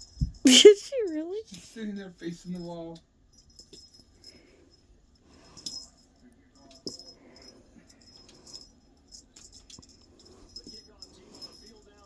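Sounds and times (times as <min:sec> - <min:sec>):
cat toy metallic jingling: 0:00.0 - 0:12.0.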